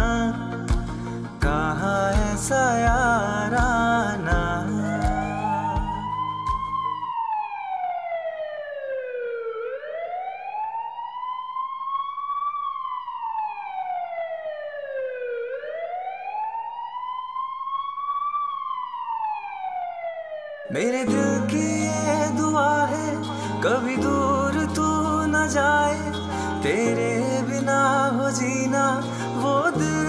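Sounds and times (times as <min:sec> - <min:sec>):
siren-like wailing tone: 0:04.6 - 0:29.8.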